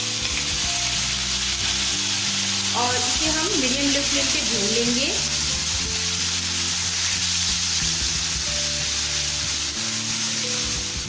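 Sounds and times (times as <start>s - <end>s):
onion paste sizzling in oil: 0.0s - 11.0s.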